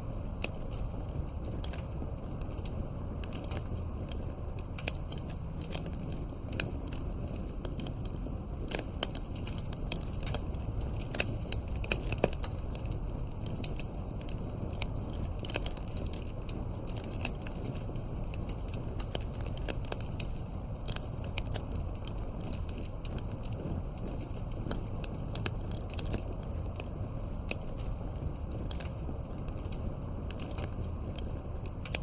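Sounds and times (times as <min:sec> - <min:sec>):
low rumble of flames: 0:00.0 - 0:32.0
wood crackling and popping: 0:00.0 - 0:32.0.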